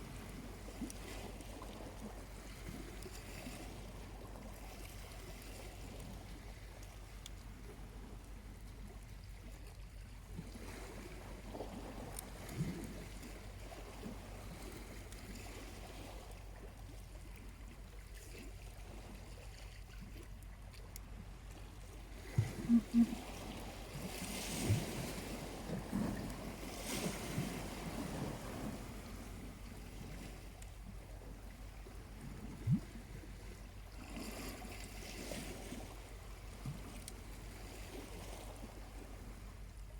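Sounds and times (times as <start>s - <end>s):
low rumble of wind and surf: 0.0s - 39.9s
small waves washing onto beach: 0.0s - 39.9s.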